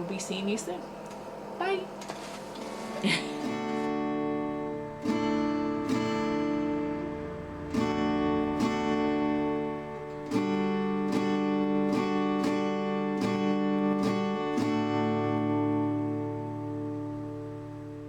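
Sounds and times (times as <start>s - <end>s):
acoustic guitar strumming chords: 2.6s - 18.0s.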